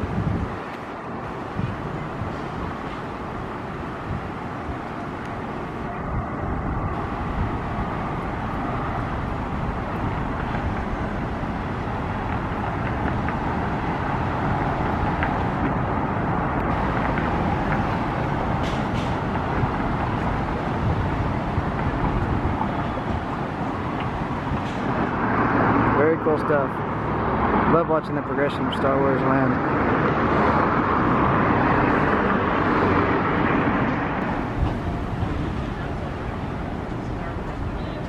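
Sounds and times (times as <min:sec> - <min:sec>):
distant road traffic rumble: 0:00.0 - 0:38.0.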